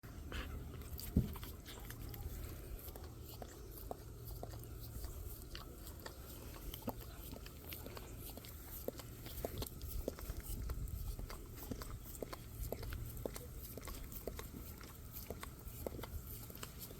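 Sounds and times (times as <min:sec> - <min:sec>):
dog licking and chewing: 0:00.1 - 0:16.9.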